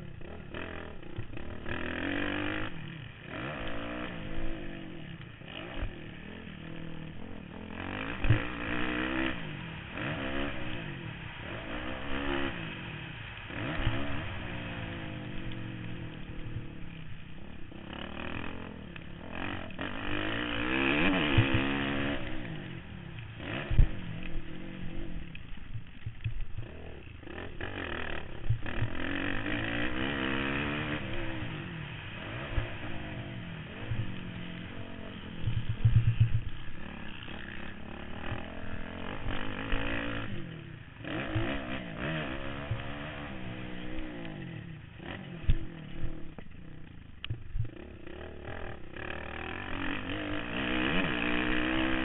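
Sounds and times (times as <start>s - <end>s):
motocross bike engine revving: 0.0s - 52.0s.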